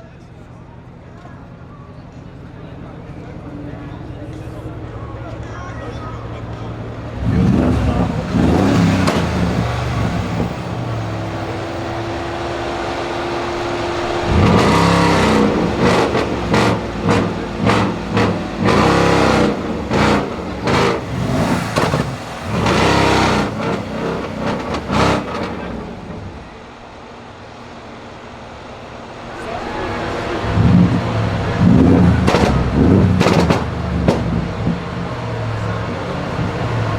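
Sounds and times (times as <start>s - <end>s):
car engine idling: 0.0s - 36.9s
car engine revving: 2.2s - 26.9s, 28.4s - 36.9s.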